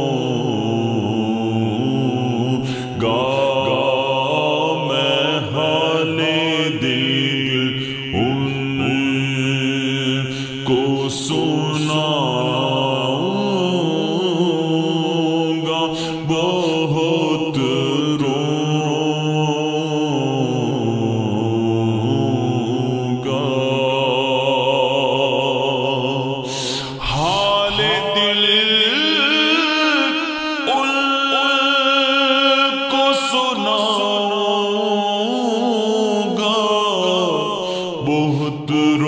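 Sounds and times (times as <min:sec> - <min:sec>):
chanted singing: 0:00.0 - 0:39.0.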